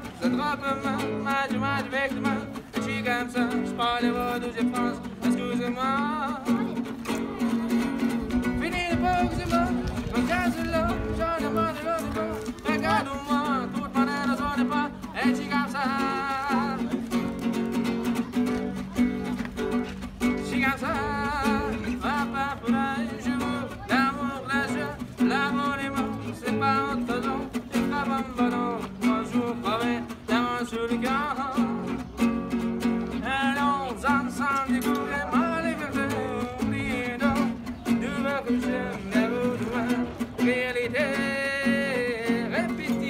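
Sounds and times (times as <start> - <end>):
acoustic guitar strumming: 0.0 - 43.0
man singing: 0.0 - 43.0.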